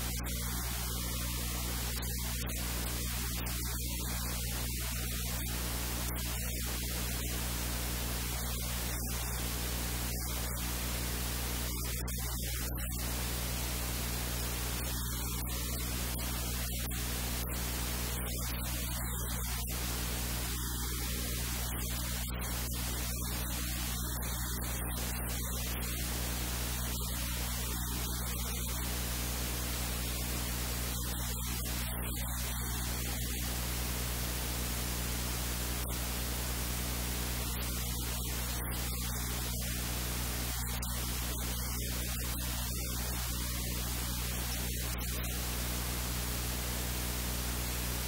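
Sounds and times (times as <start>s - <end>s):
static hiss: 0.0s - 48.0s.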